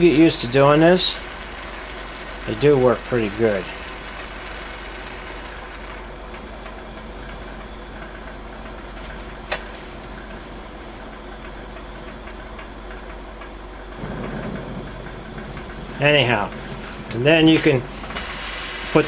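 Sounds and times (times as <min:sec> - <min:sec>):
welding torch flame hissing: 0:00.0 - 0:19.0.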